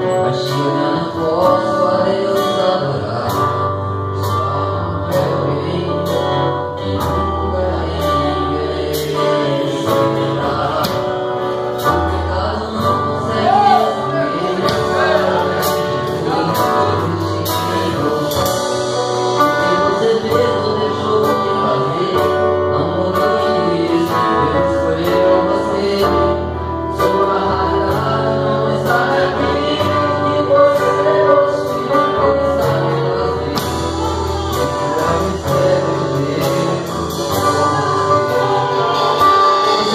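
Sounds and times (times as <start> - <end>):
acoustic guitar: 0.0 - 39.9
drum kit: 0.0 - 39.9
keyboard: 0.0 - 39.9
man singing into a microphone: 0.0 - 39.9.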